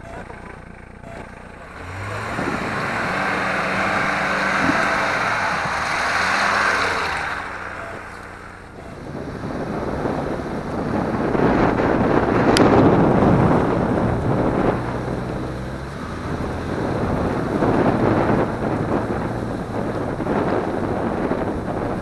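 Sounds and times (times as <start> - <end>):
off-road vehicle engine under load: 0.0 - 22.0
heavy rushing noise: 1.1 - 21.4.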